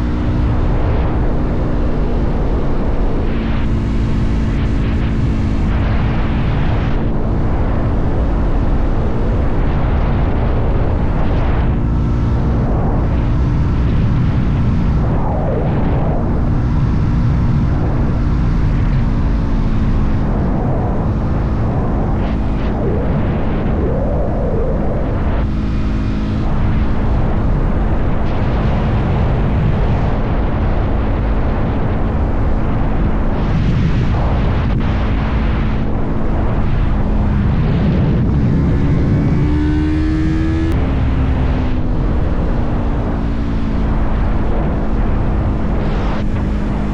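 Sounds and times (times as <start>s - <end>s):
motorcycle engine running: 0.0s - 23.8s, 24.7s - 46.9s
wind noise on microphone: 0.0s - 46.9s.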